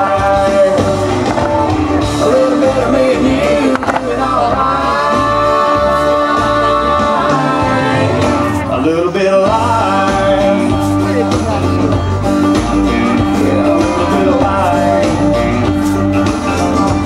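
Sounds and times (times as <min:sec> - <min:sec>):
country music with bass and guitar: 0:00.0 - 0:17.0.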